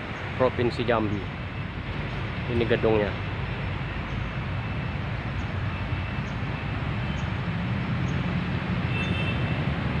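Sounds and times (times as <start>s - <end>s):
passing vehicle engines: 0.0s - 10.0s
road traffic rumble: 0.0s - 10.0s.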